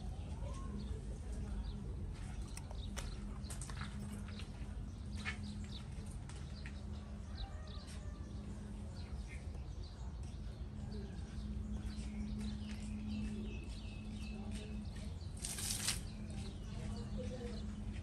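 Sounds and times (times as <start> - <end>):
low hum and rumble: 0.0 - 18.0.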